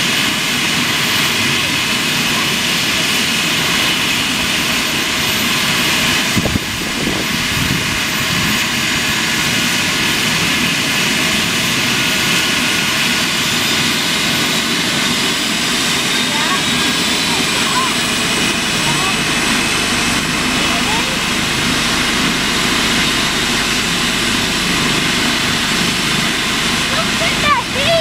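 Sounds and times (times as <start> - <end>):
helicopter turbine whine: 0.0 - 28.0.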